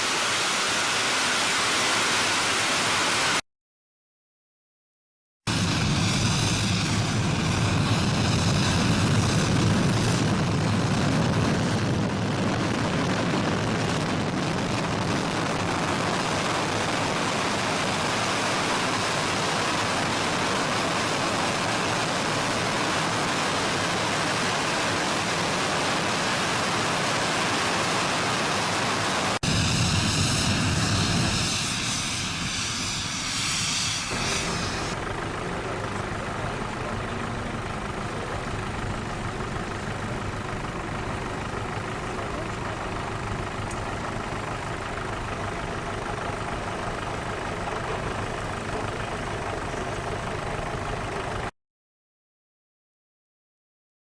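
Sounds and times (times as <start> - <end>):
jet airliner engines roaring: 0.0 - 3.4, 5.5 - 51.5.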